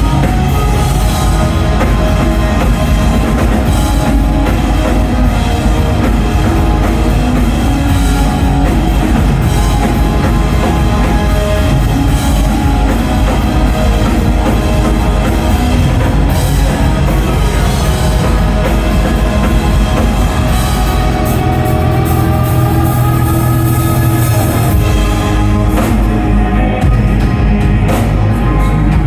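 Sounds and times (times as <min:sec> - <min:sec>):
distorted guitars: 0:00.0 - 0:29.0
driving drum kit: 0:00.0 - 0:29.0.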